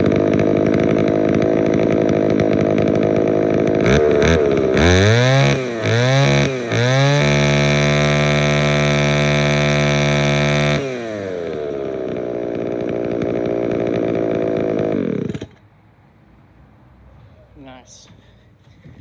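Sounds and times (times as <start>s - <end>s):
small gas engine revving: 0.0s - 15.7s.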